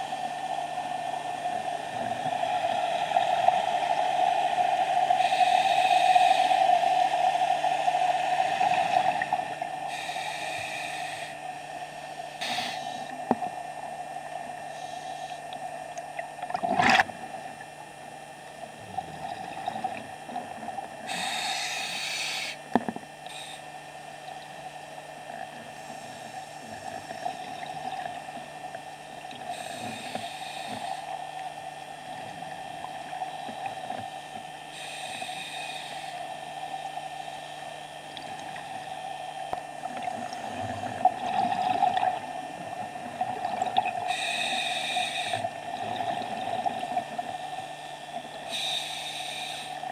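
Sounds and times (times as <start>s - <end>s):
regulator bubbling hiss: 0.0s - 17.6s, 18.6s - 49.9s
underwater hum: 0.0s - 49.9s.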